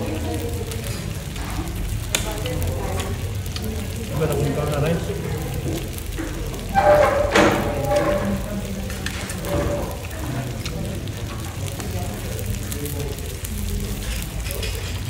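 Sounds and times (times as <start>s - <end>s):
background voices: 0.0s - 15.0s
meat sizzling on grill: 0.0s - 15.0s.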